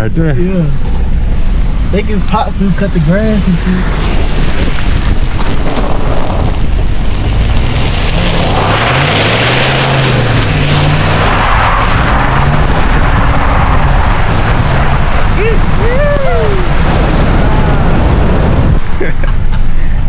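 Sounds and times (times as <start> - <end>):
truck engine revving: 0.8 - 19.7
tyres spinning on snow: 1.8 - 20.0.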